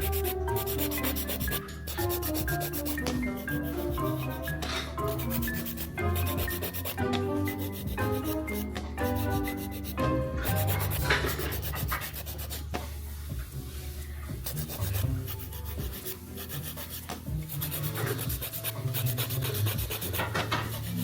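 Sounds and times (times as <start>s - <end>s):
fingernails being filed: 0.0s - 12.9s, 14.4s - 21.0s
background music with bass line: 0.0s - 21.0s.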